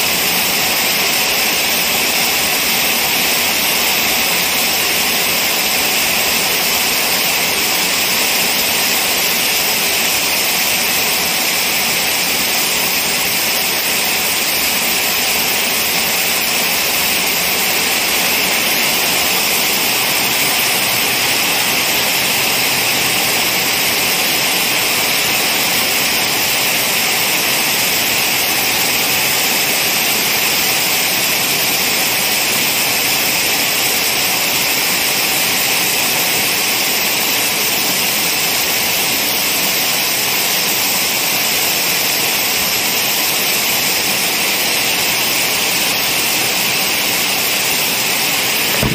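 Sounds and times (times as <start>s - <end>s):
heavy rain splashing on puddles: 0.0s - 48.9s.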